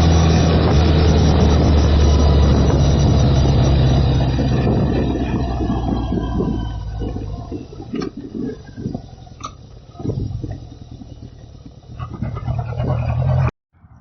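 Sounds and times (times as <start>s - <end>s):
motorcycle engine drone: 0.0s - 14.0s
wind buffeting camera: 0.0s - 14.0s.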